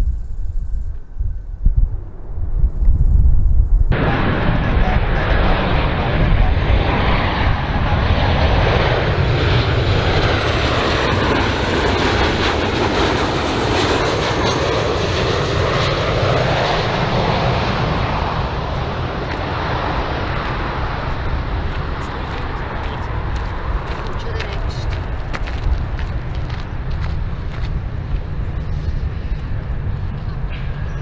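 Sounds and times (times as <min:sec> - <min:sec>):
jet airliner engine noise: 0:00.0 - 0:31.0.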